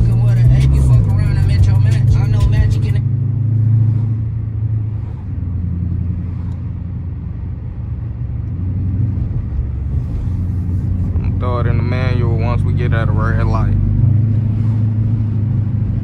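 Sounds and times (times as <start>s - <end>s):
car exhaust drone from cabin: 0.0s - 16.0s.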